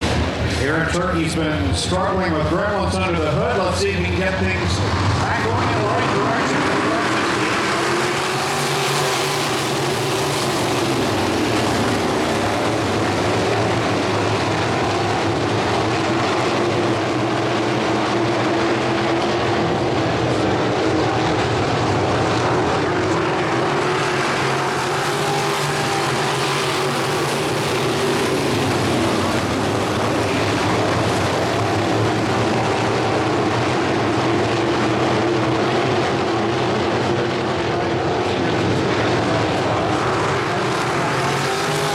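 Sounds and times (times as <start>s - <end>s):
race car engines passing: 0.0s - 41.9s.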